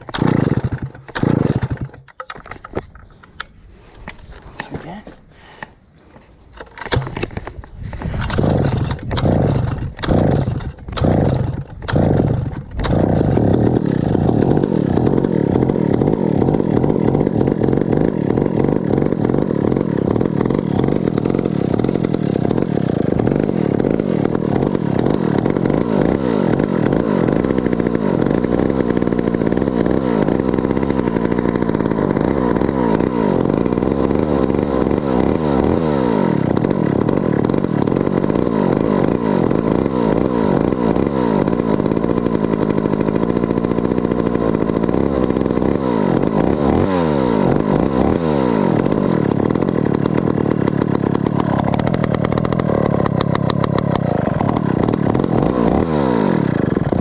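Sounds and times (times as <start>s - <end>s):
chainsaw starting and running: 0.0s - 57.0s.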